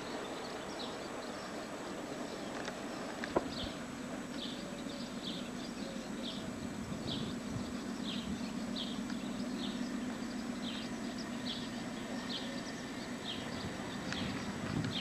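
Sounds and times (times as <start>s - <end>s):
bird chirping: 0.0s - 15.0s
distant diesel engine drone: 0.0s - 15.0s.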